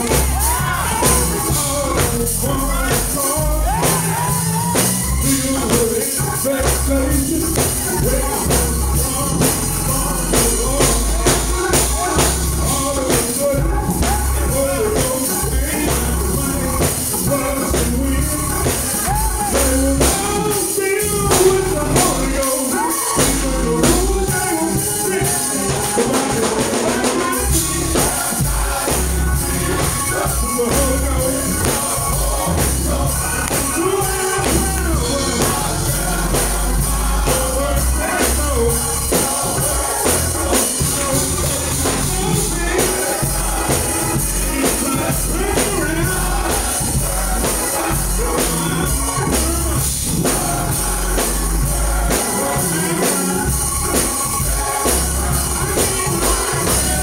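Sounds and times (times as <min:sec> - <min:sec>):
bass line: 0:00.0 - 0:57.0
drums: 0:00.0 - 0:57.0
lead soloist singing on microphone: 0:00.0 - 0:57.0
male gospel chorus singing: 0:00.0 - 0:57.0.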